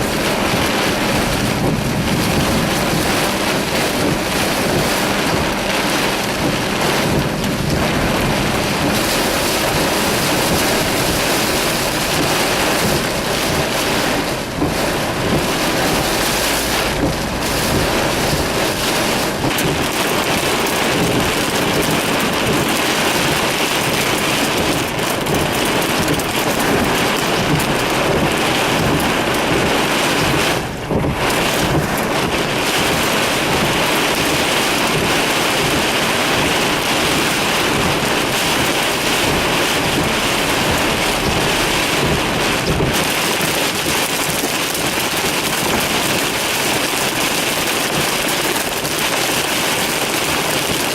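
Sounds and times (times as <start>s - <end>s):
torrential rain downpour: 0.0s - 50.9s.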